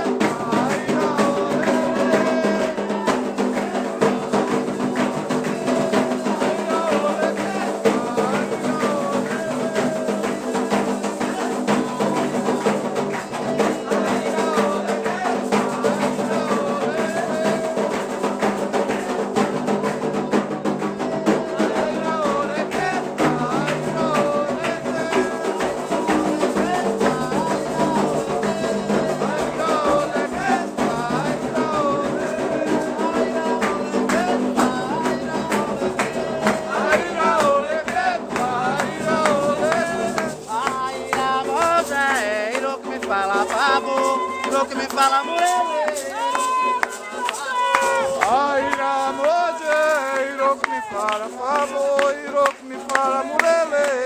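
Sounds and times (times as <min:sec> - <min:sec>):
hand drums and percussion: 0:00.0 - 0:54.0
voices singing: 0:00.0 - 0:54.0.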